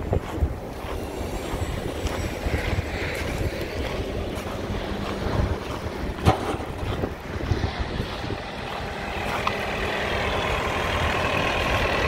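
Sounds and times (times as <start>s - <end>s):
diesel engine rumbling: 0.0s - 12.0s
wind buffeting microphone: 0.0s - 12.0s.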